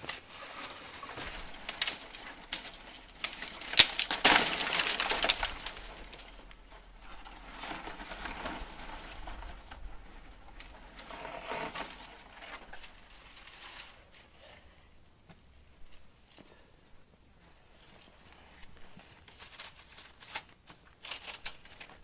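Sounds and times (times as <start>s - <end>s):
dry plants crackling and rustling: 0.0s - 14.4s, 17.7s - 22.0s.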